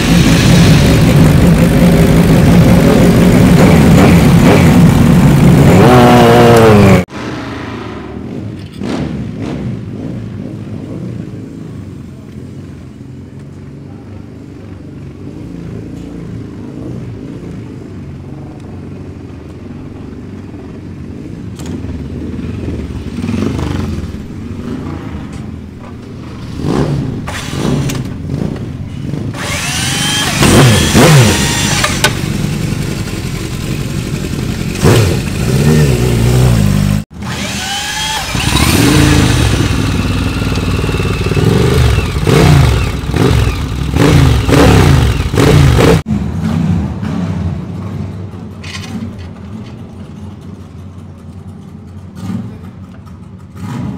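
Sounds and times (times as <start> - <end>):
motorcycle engine revving: 0.0 - 11.6, 19.8 - 49.4, 50.2 - 53.9.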